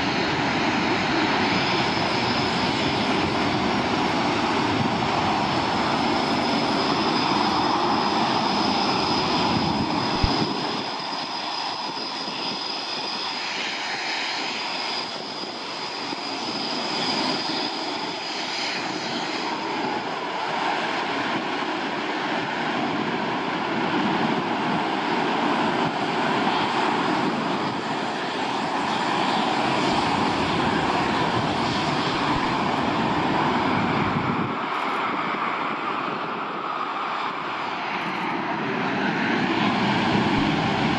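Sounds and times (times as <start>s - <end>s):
high engine whine: 0.0s - 40.9s
jet engines roaring: 0.0s - 40.9s.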